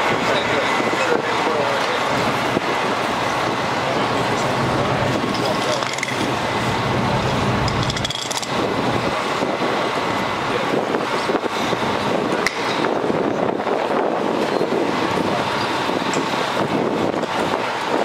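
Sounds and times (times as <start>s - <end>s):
faint steady whine: 0.0s - 18.0s
fire engine mechanical drone: 0.0s - 18.0s.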